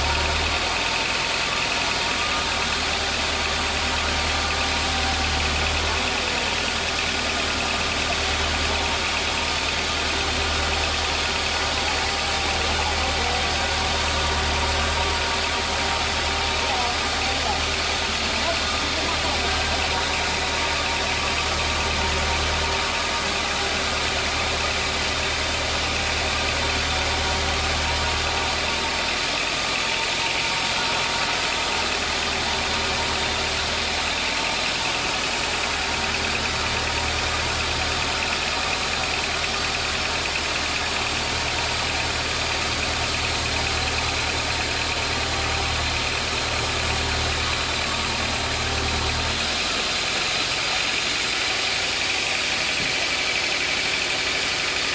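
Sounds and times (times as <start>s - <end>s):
low engine-like hum: 0.0s - 54.9s
sawmill machinery hissing: 0.0s - 54.9s.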